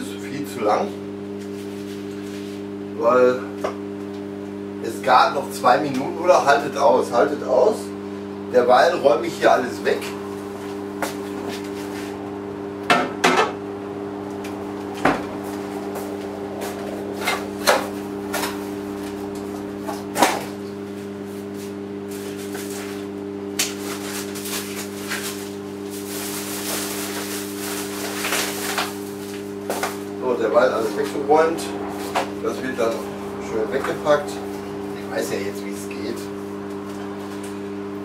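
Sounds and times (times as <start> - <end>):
air fryer humming: 0.0 - 38.0.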